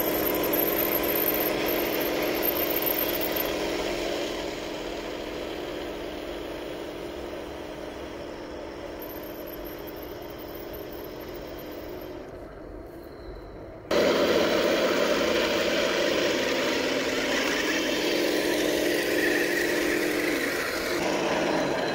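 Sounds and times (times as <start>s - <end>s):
toy tank mechanical hum: 0.0s - 21.9s.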